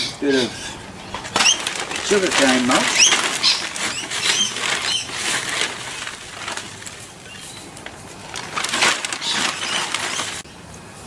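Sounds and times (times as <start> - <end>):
dry mulch rustling and crackling: 1.1 - 10.5.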